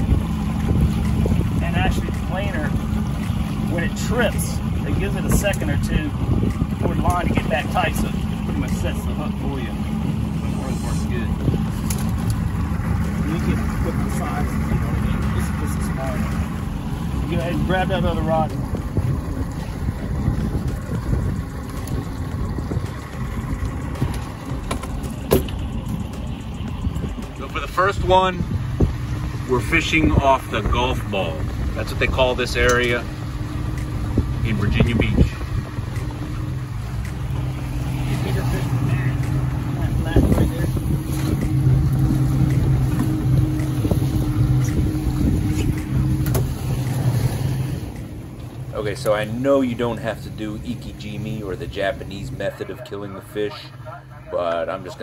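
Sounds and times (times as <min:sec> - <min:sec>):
wind on microphone: 0:00.0 - 0:48.7
boat engine humming: 0:00.0 - 0:55.0
outboard motor running: 0:00.0 - 0:55.0
water noise: 0:00.0 - 0:55.0.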